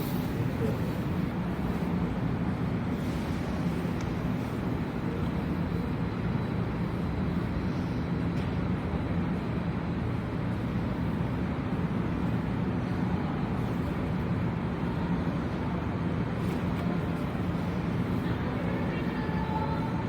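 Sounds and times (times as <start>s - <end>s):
subway platform rumble and hum: 0.0s - 20.0s.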